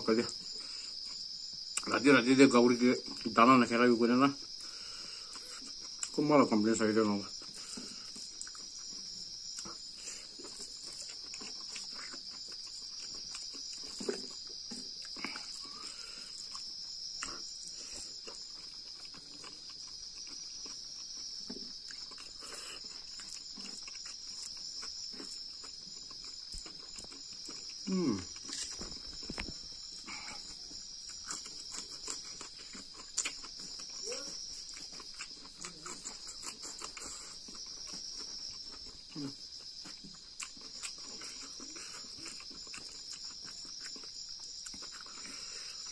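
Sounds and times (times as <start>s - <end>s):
crickets chirping: 0.0s - 45.9s
man chewing and lip-smacking: 0.2s - 3.4s, 4.4s - 45.9s.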